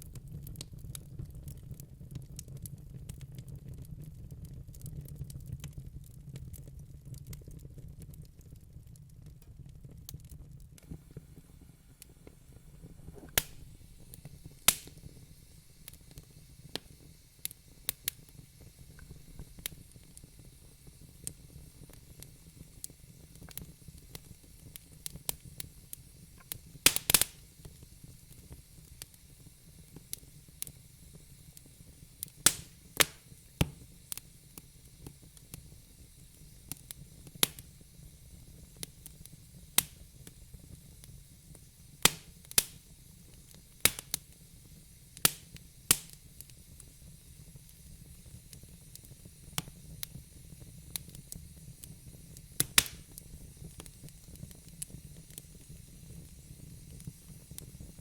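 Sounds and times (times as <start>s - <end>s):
low fire rumble: 0.0s - 58.0s
wood fire crackling and popping: 0.0s - 58.0s.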